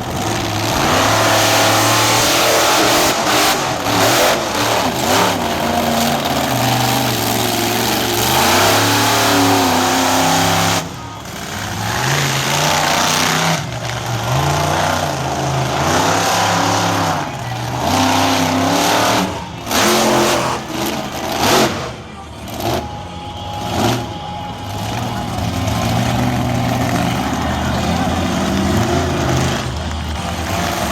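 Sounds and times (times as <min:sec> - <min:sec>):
monster truck engine revving: 0:00.0 - 0:30.9.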